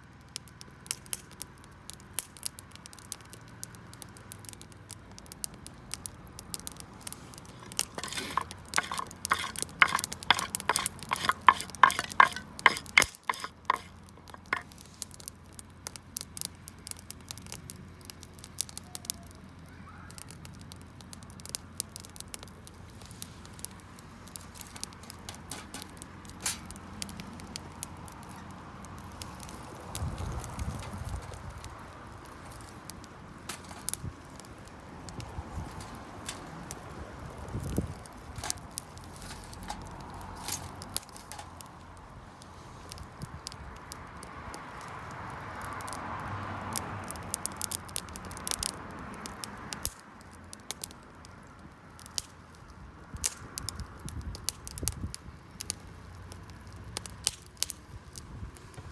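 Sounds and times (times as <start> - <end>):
wood fire crackling and popping: 0.0 - 58.9
sizzling: 0.8 - 18.8, 20.2 - 51.2.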